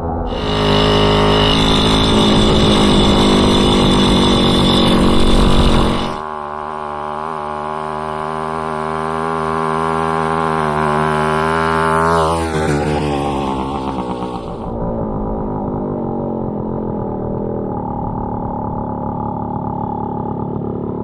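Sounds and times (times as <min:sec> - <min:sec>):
moped engine running: 0:00.0 - 0:21.0.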